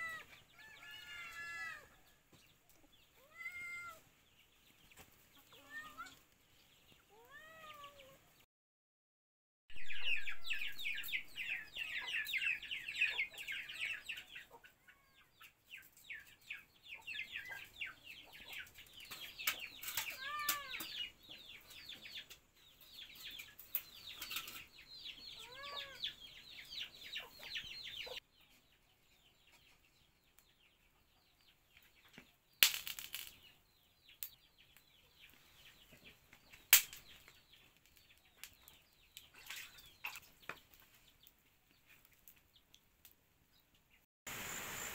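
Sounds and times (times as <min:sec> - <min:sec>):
chickens chirping and clucking: 0:00.0 - 0:08.4, 0:09.8 - 0:32.6, 0:33.3 - 0:42.7.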